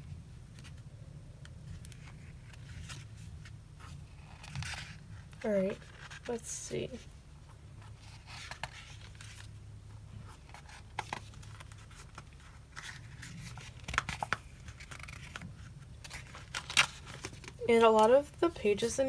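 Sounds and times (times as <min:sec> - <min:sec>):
faint low hum: 0:00.0 - 0:19.0
paper pages rustling: 0:01.6 - 0:18.6.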